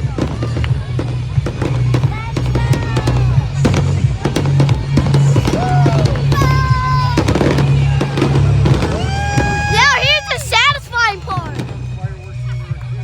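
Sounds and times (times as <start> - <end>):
fireworks crackling and banging: 0.0 - 13.0
loud music with bass: 0.0 - 13.0.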